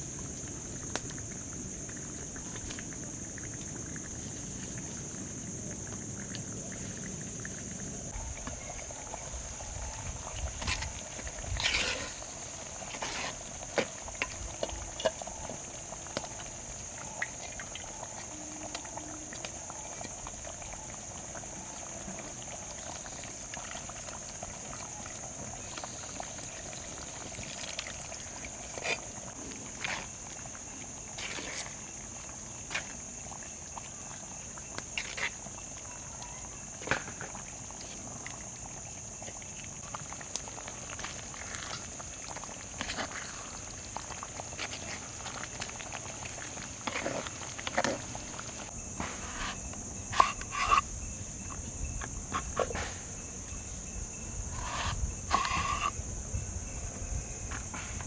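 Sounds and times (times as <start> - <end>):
liquid bubbling in a pot: 0.1 - 56.8.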